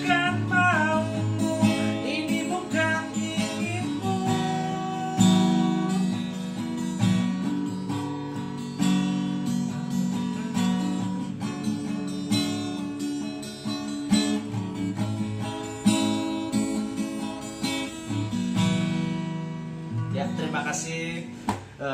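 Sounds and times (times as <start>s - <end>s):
acoustic guitar strumming chords: 0.0s - 21.9s.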